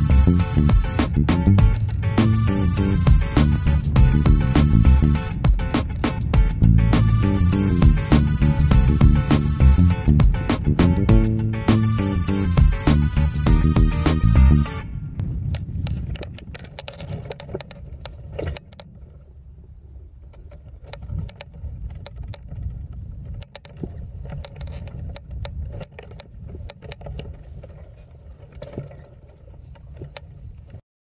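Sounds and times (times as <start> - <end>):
wind rumbling on microphone: 0.0 - 30.8.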